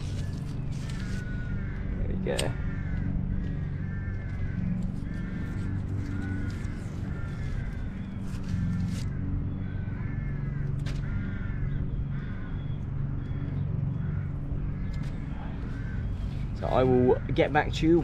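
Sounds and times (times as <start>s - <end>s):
birds calling: 0.0s - 18.0s
steady low hum: 0.0s - 18.0s.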